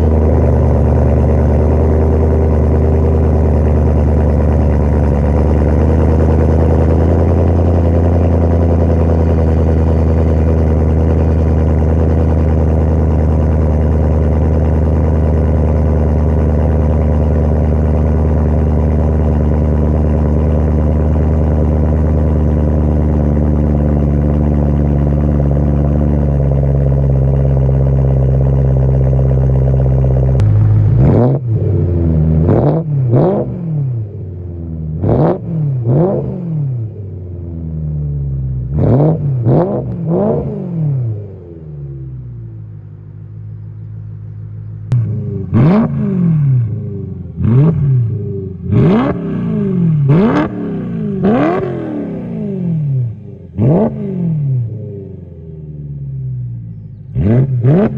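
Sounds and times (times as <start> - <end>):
car engine idling and revving: 0.0 - 57.9.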